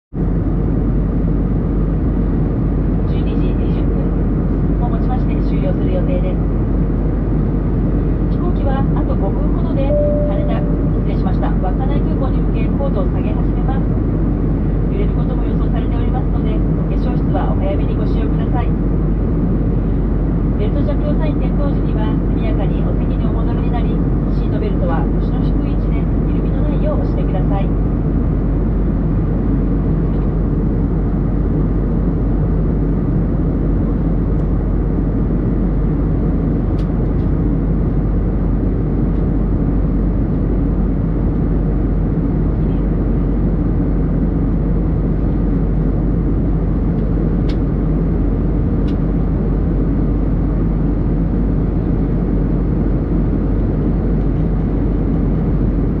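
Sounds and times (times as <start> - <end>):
airliner cabin drone: 0.1 - 56.0.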